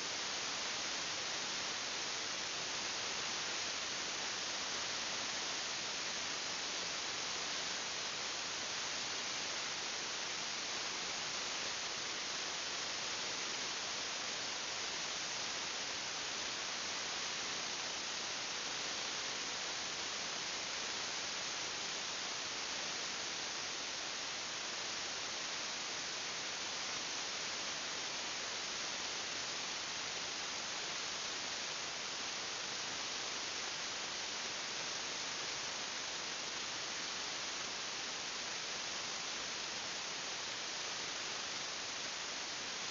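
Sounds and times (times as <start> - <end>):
recording noise hiss: 0.0 - 42.9.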